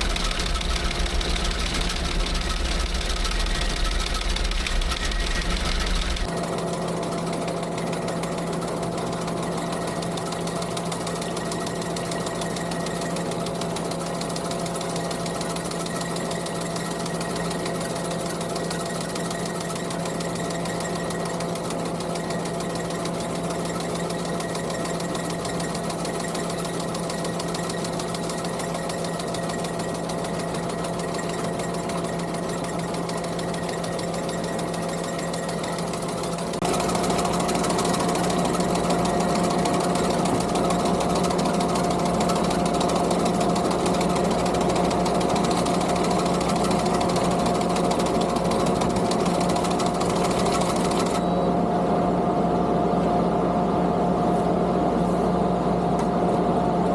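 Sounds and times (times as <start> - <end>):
skid steer engine running: 0.0 - 52.5.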